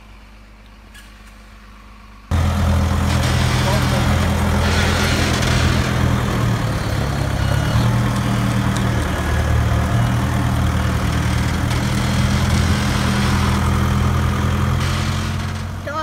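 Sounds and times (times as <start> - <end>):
diesel engine idling: 2.3 - 16.0.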